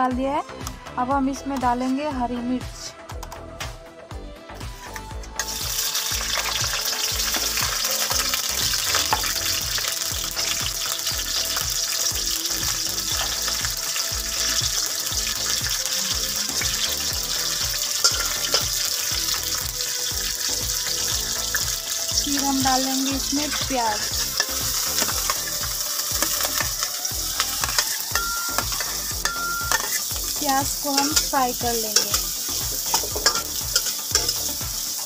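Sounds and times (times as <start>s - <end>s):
oil popping: 5.4s - 34.7s
chillies sizzling in hot oil: 5.4s - 35.0s.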